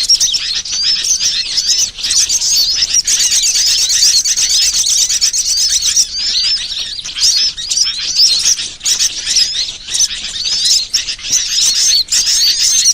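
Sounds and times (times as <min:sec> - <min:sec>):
small birds chirping and twittering: 0:00.0 - 0:12.9.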